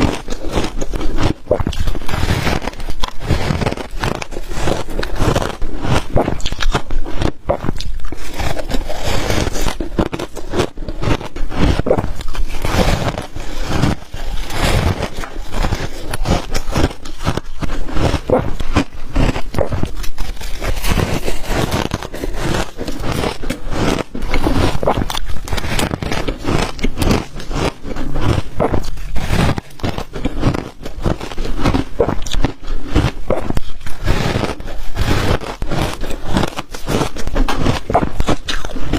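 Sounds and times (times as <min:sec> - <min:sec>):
crunching ice: 0:00.0 - 0:38.9.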